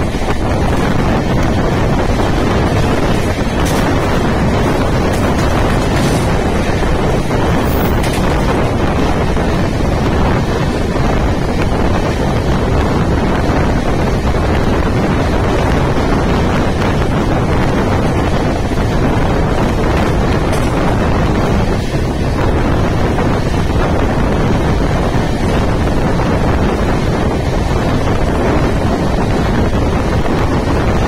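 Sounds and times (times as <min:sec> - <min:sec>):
train running rumble: 0:00.0 - 0:31.0
wind buffeting microphone: 0:00.0 - 0:31.0.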